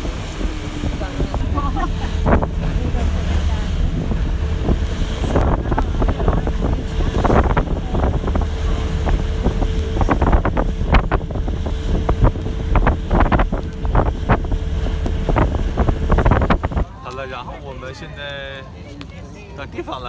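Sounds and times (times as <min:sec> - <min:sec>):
wind buffeting microphone: 0:00.0 - 0:17.0
motor boat engine rumble: 0:00.0 - 0:20.0.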